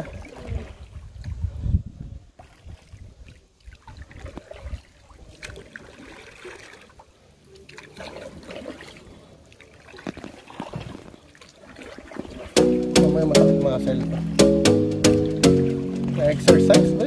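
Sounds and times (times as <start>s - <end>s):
water lapping around kayak: 0.0s - 17.0s
water dripping from paddle: 2.4s - 17.0s.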